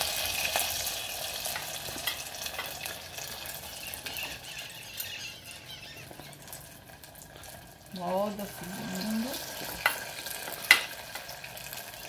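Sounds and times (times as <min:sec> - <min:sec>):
batter sizzling in hot fat: 0:00.0 - 0:12.0.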